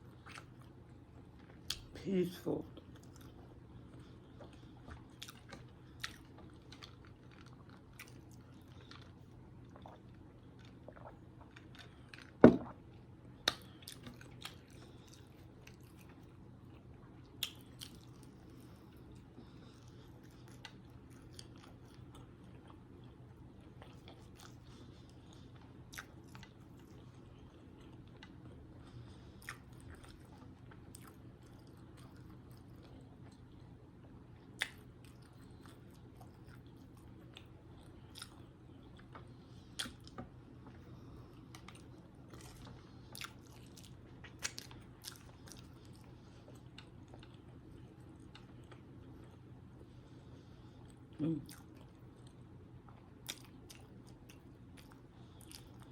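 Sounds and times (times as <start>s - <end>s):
low steady hum: 0.0s - 55.9s
person chewing: 0.1s - 0.7s, 2.8s - 33.7s, 34.4s - 49.9s, 50.8s - 55.9s.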